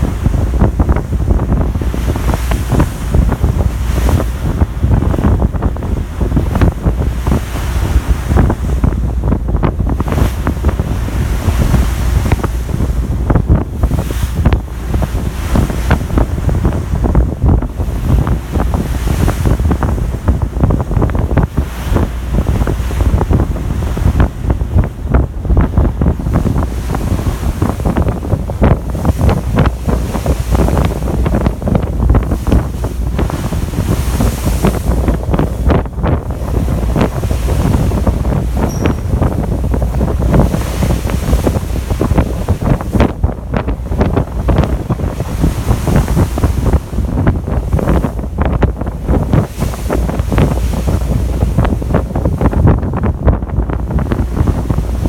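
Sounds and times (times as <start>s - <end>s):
sea rushing: 0.0s - 55.0s
wind buffeting microphone: 0.0s - 55.0s.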